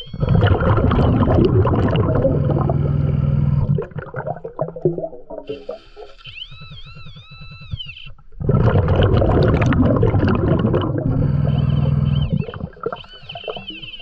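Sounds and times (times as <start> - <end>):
underwater air bubbles rushing: 0.0 - 6.2, 8.3 - 14.0
faint warbling tones: 0.0 - 14.0.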